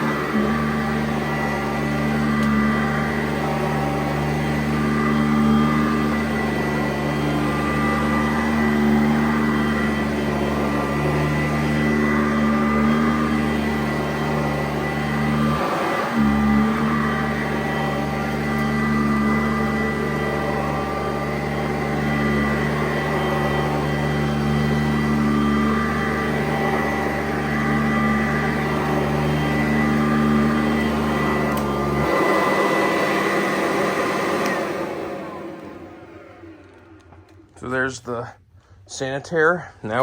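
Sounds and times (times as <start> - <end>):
vacuum cleaner motor hum: 0.0 - 37.9
vacuum winding down: 0.0 - 38.0.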